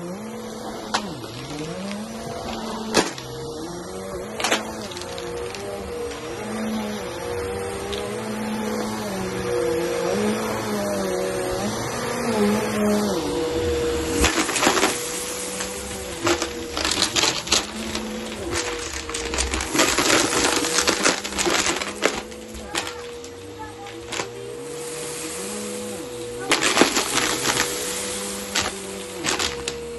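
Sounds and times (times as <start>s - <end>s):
vacuum cleaner motor running: 0.0s - 29.9s
hard bits rattling in vacuum: 0.1s - 29.9s.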